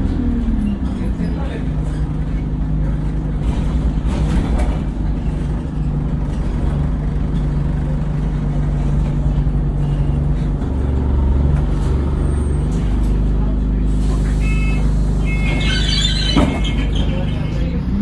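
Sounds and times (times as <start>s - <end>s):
bus diesel engine humming: 0.0s - 18.0s.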